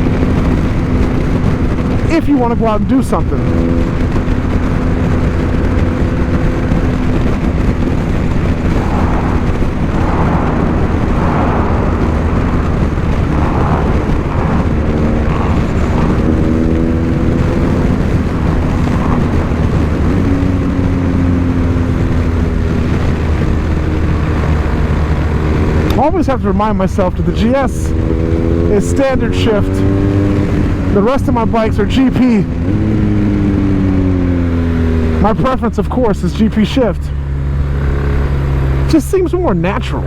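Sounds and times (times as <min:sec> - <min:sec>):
motorcycle engine running: 0:00.0 - 0:40.0
wind rumble on microphone: 0:00.0 - 0:40.0.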